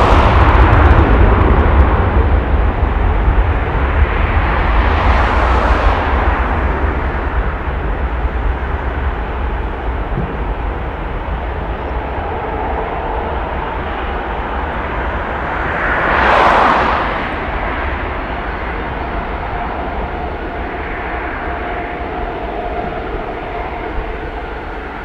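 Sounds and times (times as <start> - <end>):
faint jet whine: 0.0 - 25.0
jet engines roaring at takeoff: 0.0 - 25.0.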